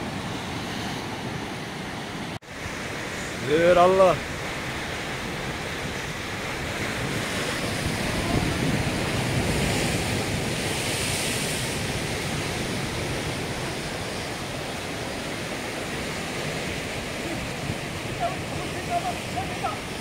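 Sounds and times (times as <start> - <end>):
ocean surf breaking on rocks: 0.0 - 20.0.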